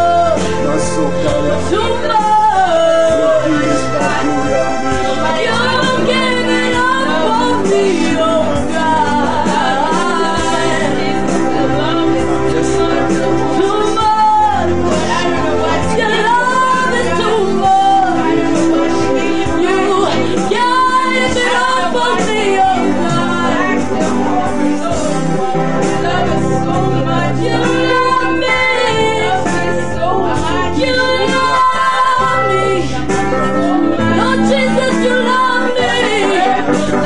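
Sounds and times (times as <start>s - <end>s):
electronic keyboard: 0.0s - 37.0s
women singing gospel song: 0.0s - 37.0s.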